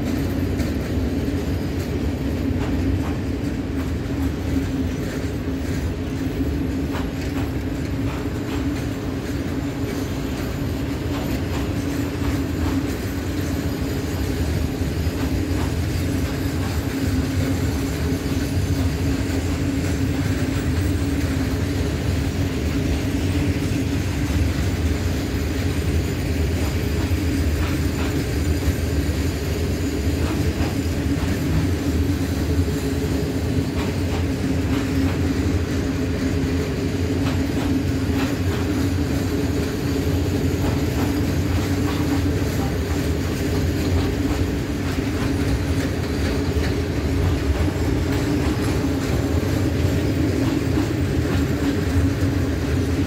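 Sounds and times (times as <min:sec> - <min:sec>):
freight train rumbling past: 0:00.0 - 0:53.0
wheels clicking over rail joints: 0:00.0 - 0:53.0.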